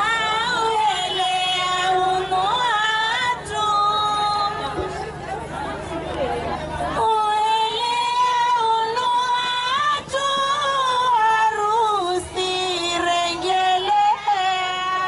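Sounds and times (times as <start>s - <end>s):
woman singing: 0.0s - 4.8s, 7.0s - 15.0s.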